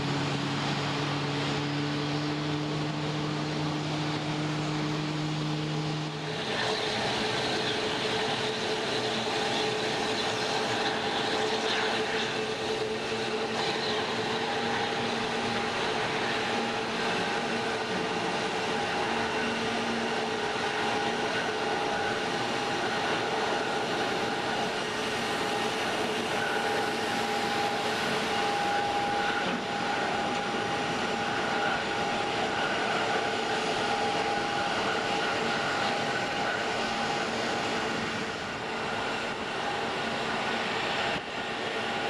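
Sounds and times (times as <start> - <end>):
jet airliner landing: 0.0 - 42.0.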